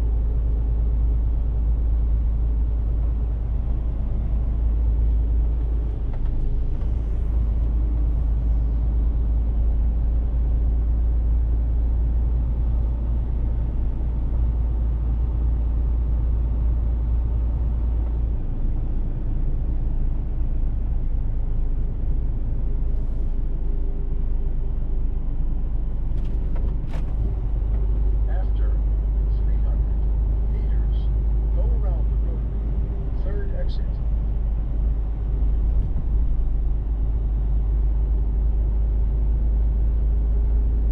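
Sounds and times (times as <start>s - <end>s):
truck diesel engine rumble: 0.0s - 40.9s.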